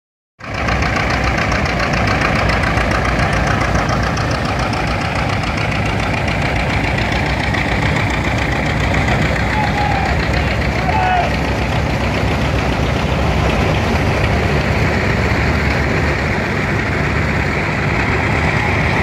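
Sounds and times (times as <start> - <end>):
farm engine running steadily: 0.4 - 19.0.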